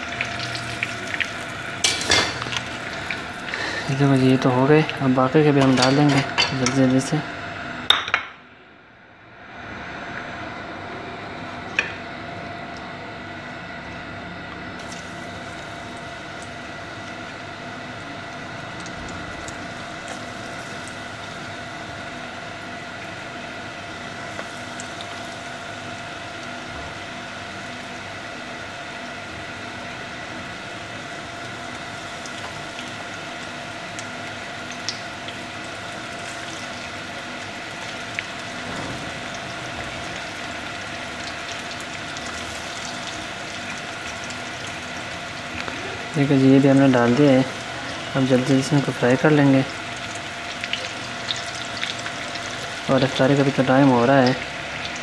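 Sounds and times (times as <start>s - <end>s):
food sizzling in hot oil: 0.0s - 7.2s, 14.8s - 55.0s
steady hum: 0.0s - 55.0s.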